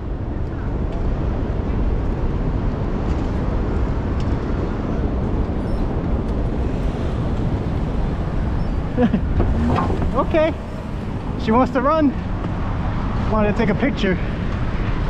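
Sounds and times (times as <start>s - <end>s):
wind rumble on microphone: 0.0s - 13.5s
city street traffic: 0.0s - 15.0s.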